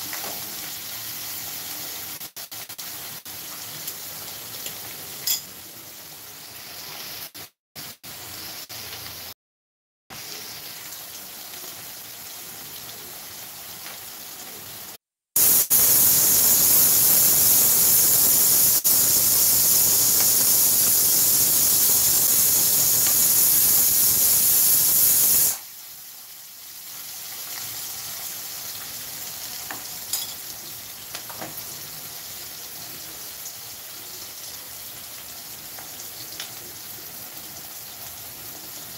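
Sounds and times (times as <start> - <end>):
gourd slices sizzling in oil: 0.0 - 9.3, 10.1 - 38.9.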